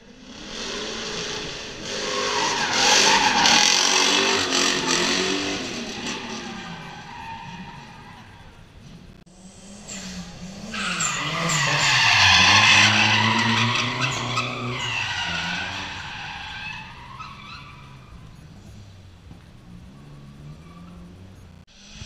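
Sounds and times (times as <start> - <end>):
car engine revving: 0.0 - 22.0
tyres squealing: 1.7 - 9.2, 9.9 - 21.6.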